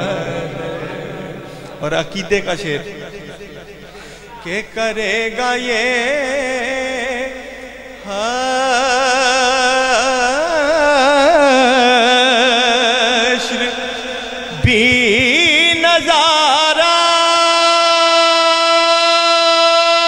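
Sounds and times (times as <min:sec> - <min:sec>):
man singing: 0:00.0 - 0:20.0.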